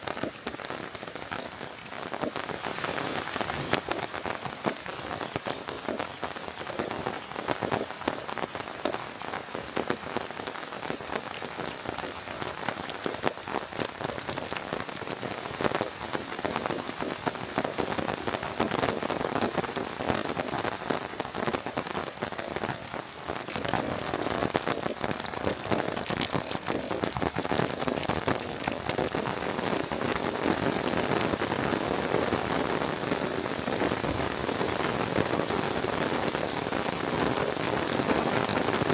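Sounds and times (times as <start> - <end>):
raindrops ticking sharply: 0.0 - 38.9
steady rain falling: 0.0 - 38.9.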